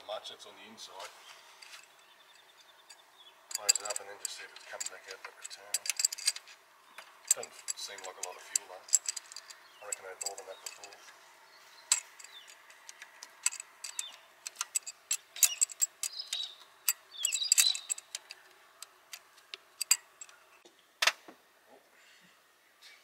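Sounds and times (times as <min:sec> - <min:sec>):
scraping rustles: 0:00.9 - 0:20.6.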